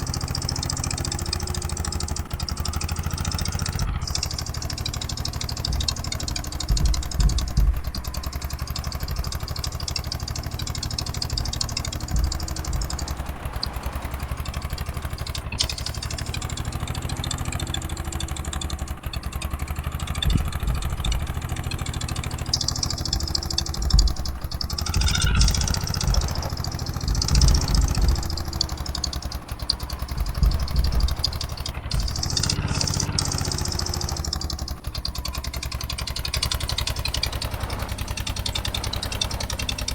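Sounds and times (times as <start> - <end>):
diesel tractor engine clattering: 0.0 - 39.9.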